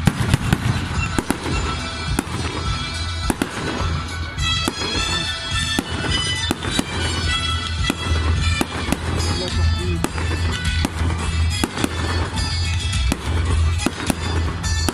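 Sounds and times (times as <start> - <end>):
fireworks bursting: 0.0 - 14.9
music playing: 0.0 - 14.9.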